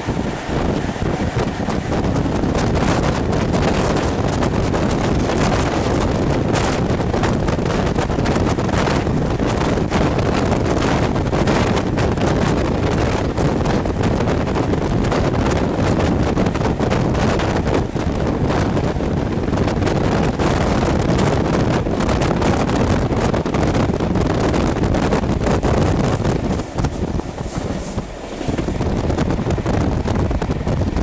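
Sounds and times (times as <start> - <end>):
train running noise: 0.0 - 31.0
wind buffeting a microphone: 0.0 - 31.0.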